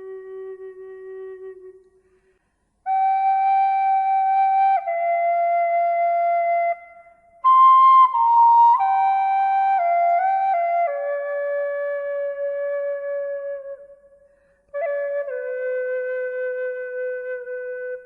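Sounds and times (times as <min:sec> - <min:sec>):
slow flute-like melody: 0:00.0 - 0:18.0.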